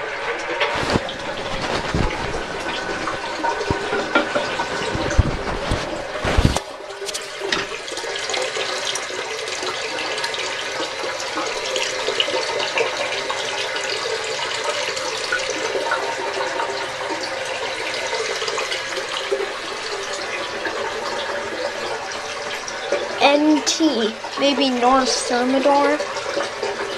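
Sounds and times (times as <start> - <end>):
toilet tank refilling hiss: 0.0 - 26.9.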